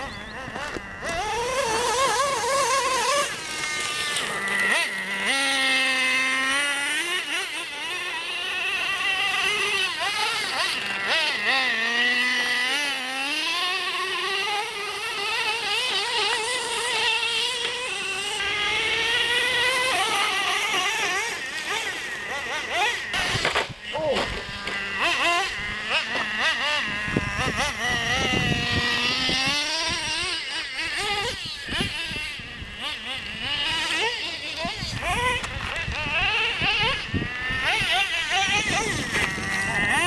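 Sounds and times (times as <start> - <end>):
rc truck engine buzzing: 0.0 - 40.0.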